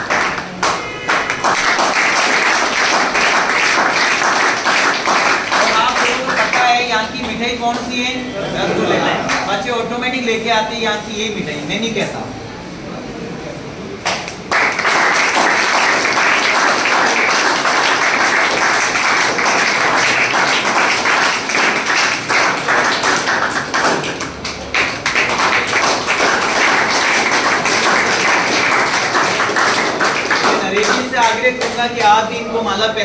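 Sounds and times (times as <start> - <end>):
people clapping hands: 0.0 - 8.0, 9.2 - 9.5, 14.0 - 32.3.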